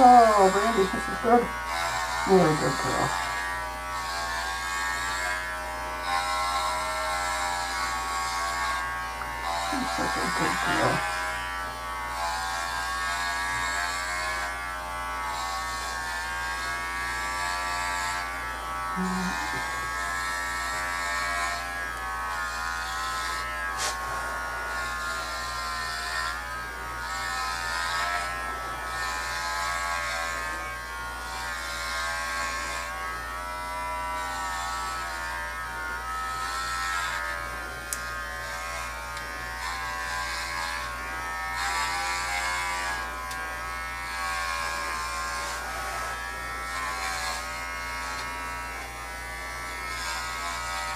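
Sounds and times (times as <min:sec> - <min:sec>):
electric dog clippers humming: 0:00.0 - 0:50.9.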